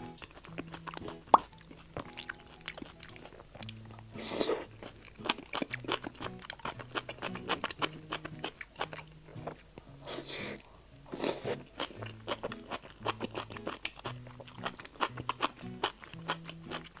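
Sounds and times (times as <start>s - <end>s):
crunchy chewing: 0.0s - 17.0s
wet bite: 0.0s - 17.0s.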